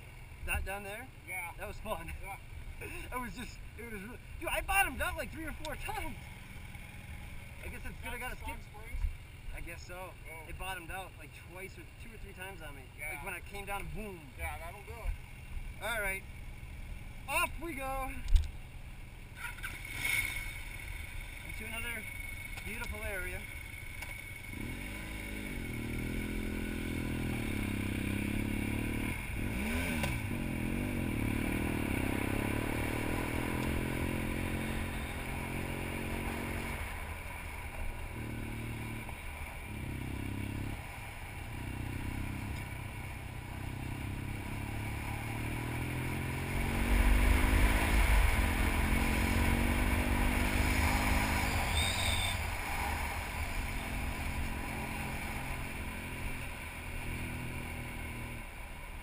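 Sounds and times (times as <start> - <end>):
gravel crackling under tyres: 0.0 - 59.0
motorcycle engine: 0.0 - 59.0.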